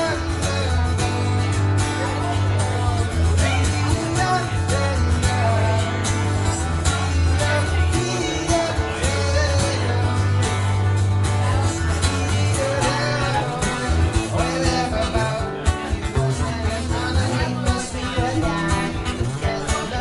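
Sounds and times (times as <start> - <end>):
acoustic guitar playing: 0.0 - 20.0
person singing: 0.0 - 20.0.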